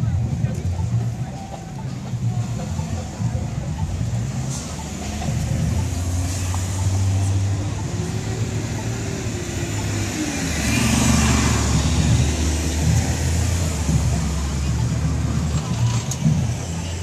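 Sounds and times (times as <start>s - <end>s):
bus engine humming: 0.0s - 17.0s
street traffic: 0.0s - 17.0s.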